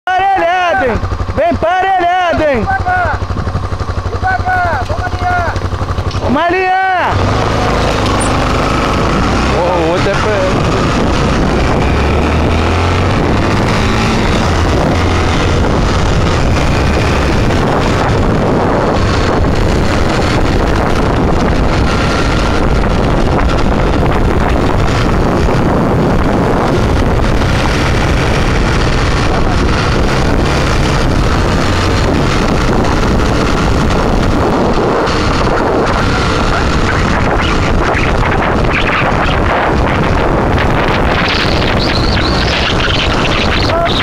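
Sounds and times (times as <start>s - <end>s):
engine running: 0.2s - 44.0s
wind buffeting microphone: 2.1s - 44.0s.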